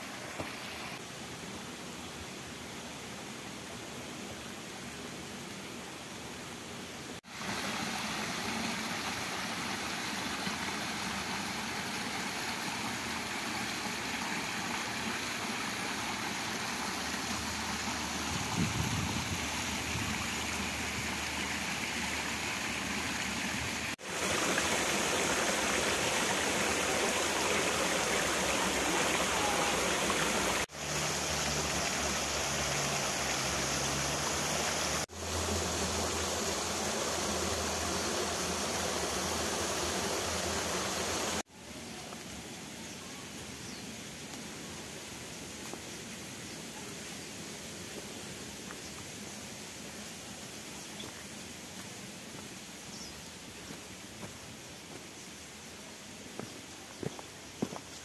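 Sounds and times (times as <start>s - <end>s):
stream rushing over rocks: 0.0s - 3.7s, 7.0s - 58.0s.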